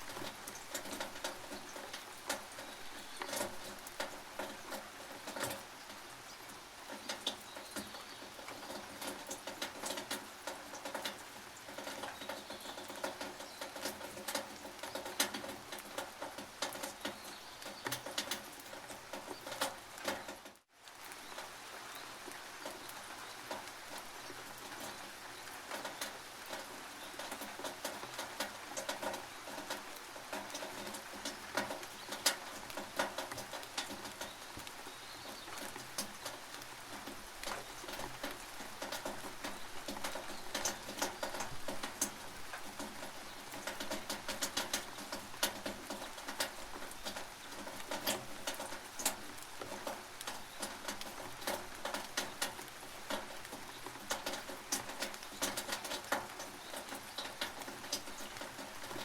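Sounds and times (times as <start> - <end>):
drops clicking on metal roof: 0.0 - 6.1, 6.8 - 20.6, 24.6 - 59.0
rain hissing: 0.0 - 59.0.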